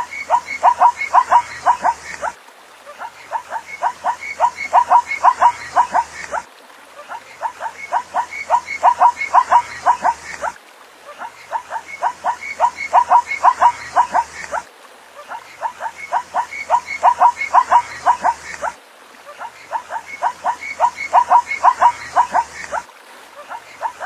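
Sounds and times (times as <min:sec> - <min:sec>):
zebra yelping: 0:00.0 - 0:02.4, 0:03.0 - 0:06.4, 0:07.1 - 0:10.6, 0:11.2 - 0:14.6, 0:15.3 - 0:18.8, 0:19.4 - 0:22.8.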